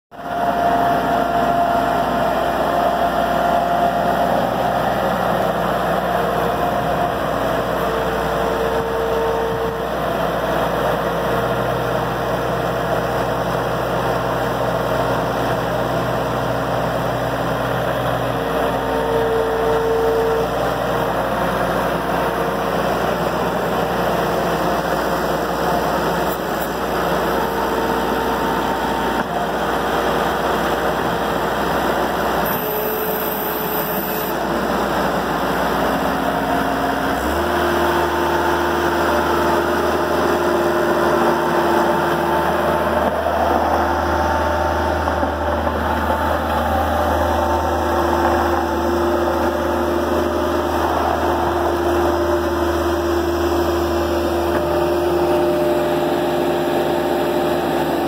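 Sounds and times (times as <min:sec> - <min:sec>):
diesel engine running: 0:00.1 - 0:58.0
hydraulic whine: 0:00.2 - 0:58.0.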